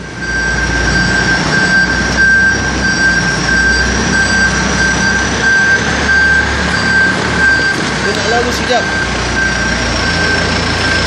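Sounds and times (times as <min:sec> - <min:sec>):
diesel engine low rumble: 0:00.0 - 0:11.0
high reversing alarm tone: 0:00.0 - 0:11.0.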